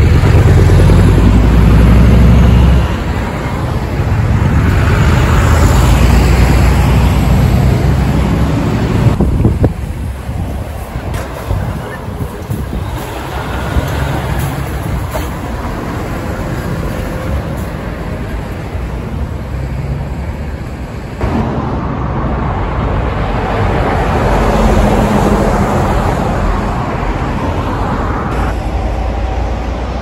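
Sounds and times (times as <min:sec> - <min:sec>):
cars passing: 0:00.0 - 0:30.0
trucks' diesel engines passing: 0:00.0 - 0:30.0.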